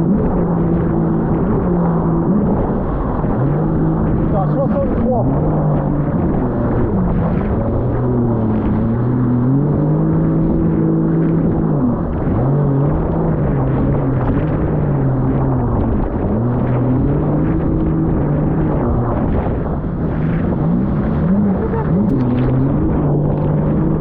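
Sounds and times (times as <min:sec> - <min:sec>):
jet ski engine running: 0:00.0 - 0:24.0
rushing water: 0:00.0 - 0:24.0
wind: 0:00.0 - 0:24.0.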